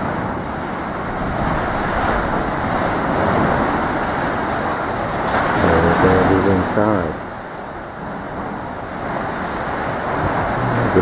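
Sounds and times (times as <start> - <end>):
surf breaking on shore: 0.0 - 11.0
wind on microphone: 0.0 - 11.0.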